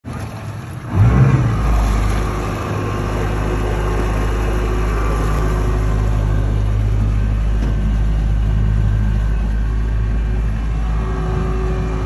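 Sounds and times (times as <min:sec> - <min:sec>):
outboard motors droning: 0:00.1 - 0:12.0.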